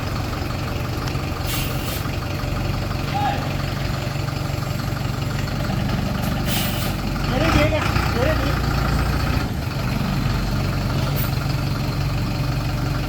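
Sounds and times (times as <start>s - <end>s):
truck engine idling low: 0.0s - 13.0s.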